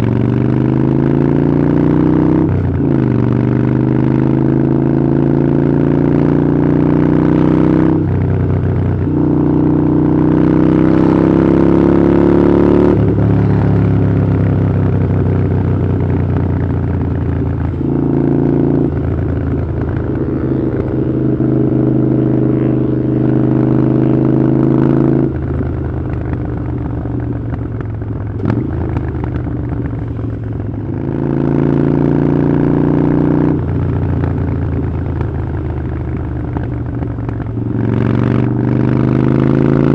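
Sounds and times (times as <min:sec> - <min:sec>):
motorcycle engine changing gears: 0:00.0 - 0:39.9.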